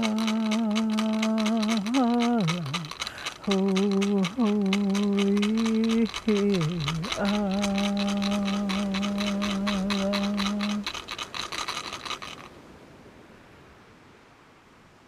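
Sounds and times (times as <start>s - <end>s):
hand rattle shaking: 0.0s - 12.5s.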